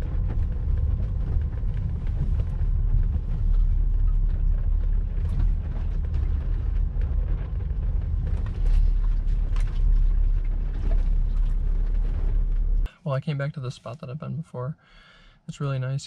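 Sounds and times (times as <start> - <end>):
car engine and road noise: 0.0 - 14.2.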